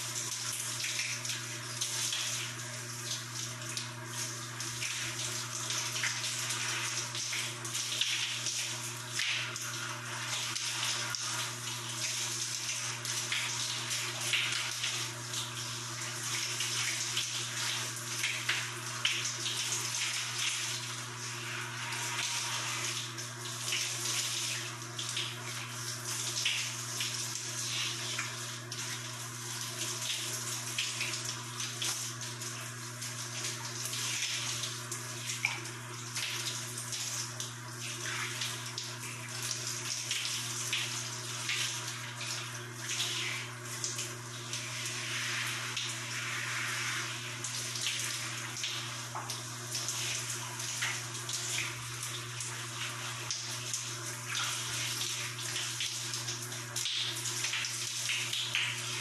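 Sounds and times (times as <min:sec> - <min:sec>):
shower water splashing: 0:00.0 - 0:59.0.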